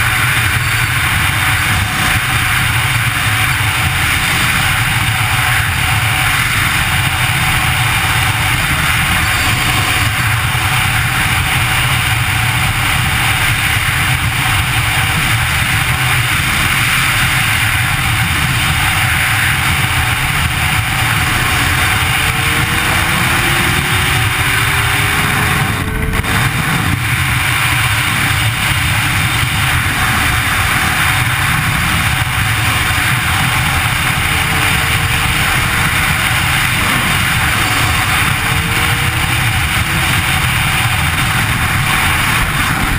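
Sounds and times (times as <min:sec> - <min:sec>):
motorcycle engine: 0:00.0 - 0:42.9
wind and road noise: 0:00.0 - 0:42.9.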